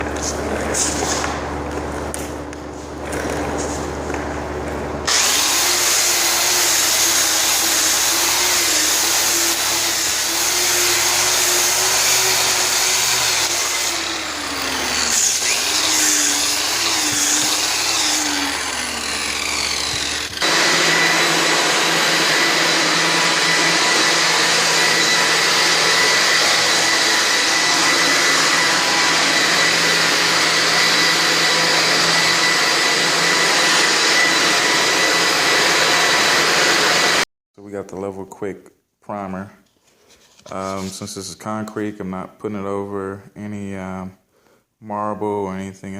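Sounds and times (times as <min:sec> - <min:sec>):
vacuum cleaner running: 0:00.0 - 0:37.2.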